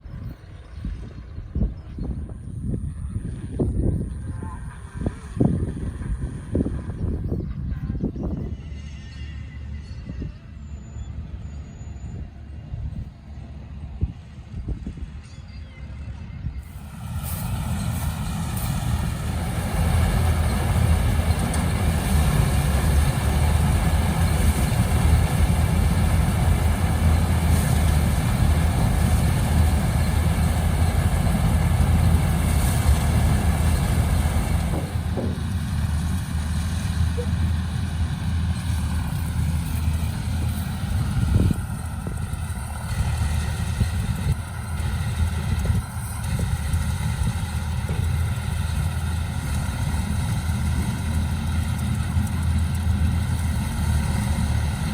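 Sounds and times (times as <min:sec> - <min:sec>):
harvester engine rumbling: 0:00.0 - 0:54.9.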